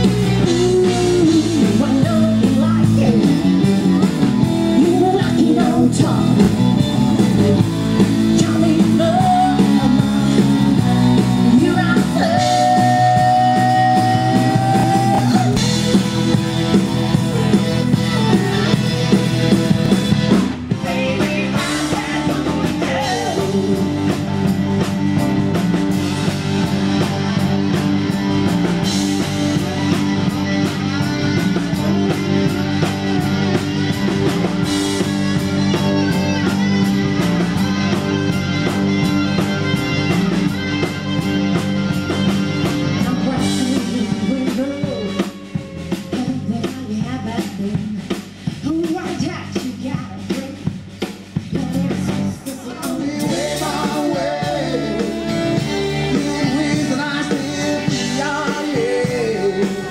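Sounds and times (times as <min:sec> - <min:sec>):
country band playing: 0:00.0 - 0:59.9.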